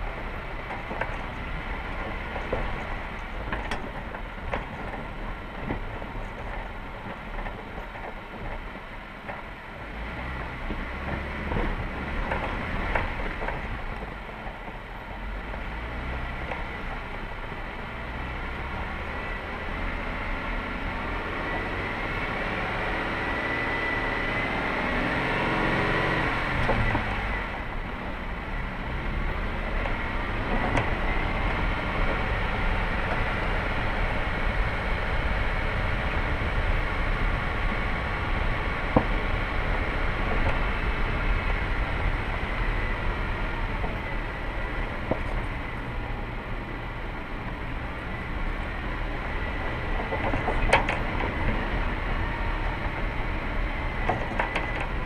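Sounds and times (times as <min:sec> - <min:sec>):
vehicle driving on gravel: 0:00.0 - 0:55.0.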